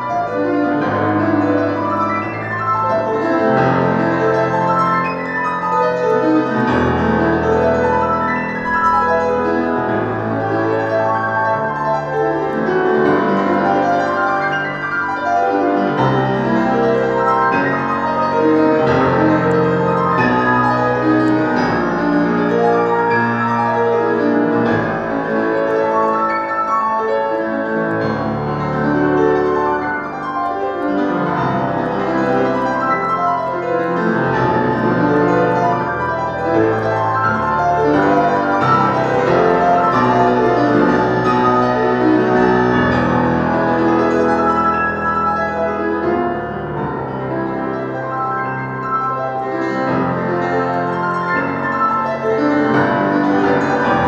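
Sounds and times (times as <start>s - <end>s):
solo grand piano: 0.0s - 54.0s.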